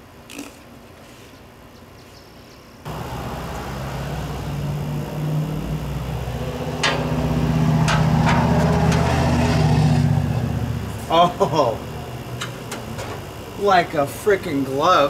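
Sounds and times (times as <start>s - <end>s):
motor humming: 2.9s - 15.0s.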